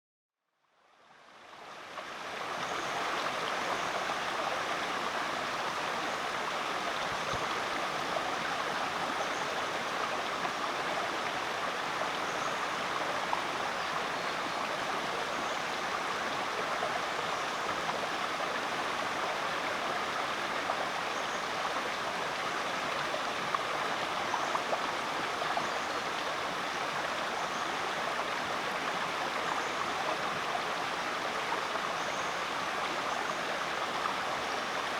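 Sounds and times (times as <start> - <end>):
creek water running: 1.0 - 34.9.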